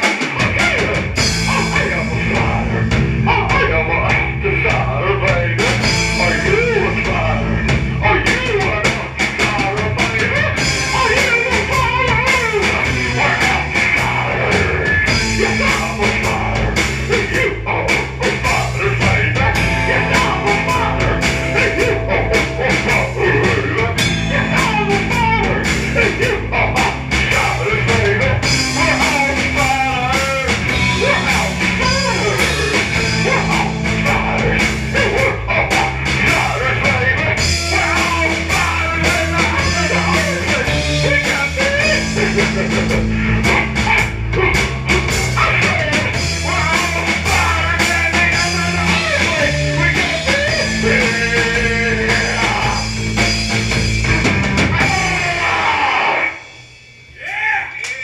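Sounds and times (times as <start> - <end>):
live rock band playing: 0.0 - 57.2.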